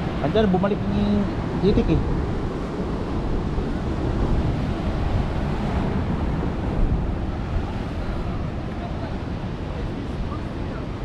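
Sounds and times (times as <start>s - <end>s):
surf washing over rocks: 0.0s - 11.0s
wind buffeting microphone: 0.0s - 11.0s.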